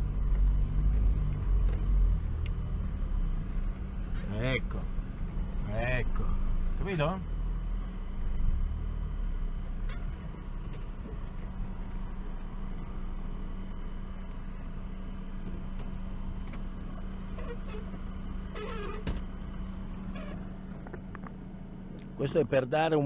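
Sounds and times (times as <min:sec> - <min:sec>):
van engine rumbling: 0:00.0 - 0:23.0.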